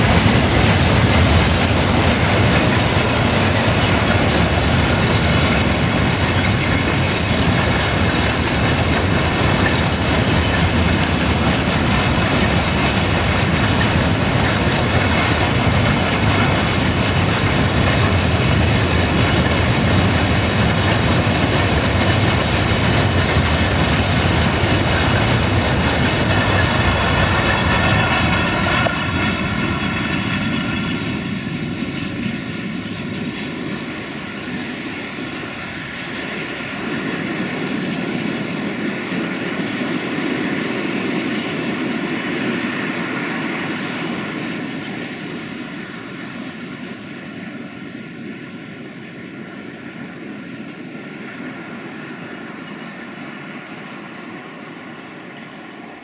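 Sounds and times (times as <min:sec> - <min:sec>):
freight wagons rumbling on rails: 0:00.0 - 0:56.0.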